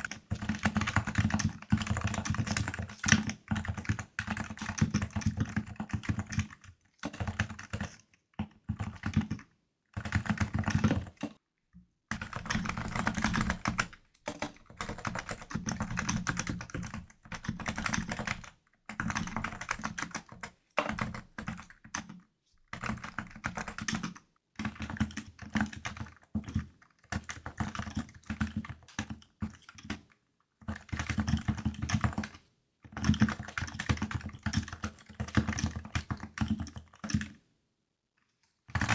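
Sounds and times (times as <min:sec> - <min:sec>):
keyboard typing: 0:00.0 - 0:11.4, 0:12.1 - 0:37.4, 0:38.7 - 0:38.9.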